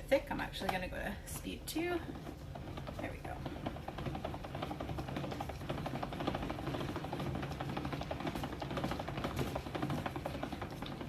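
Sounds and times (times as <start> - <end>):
hand-cranked mixer rattling: 0.0 - 11.0.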